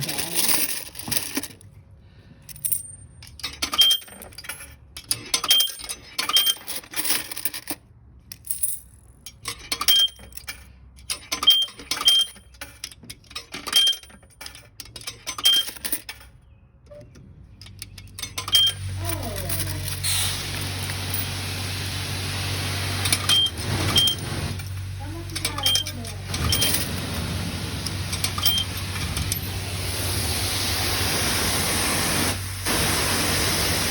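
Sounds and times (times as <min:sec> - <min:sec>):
coins clinking into slot: 0:00.0 - 0:01.7, 0:02.5 - 0:16.4, 0:17.6 - 0:21.9, 0:22.6 - 0:29.9.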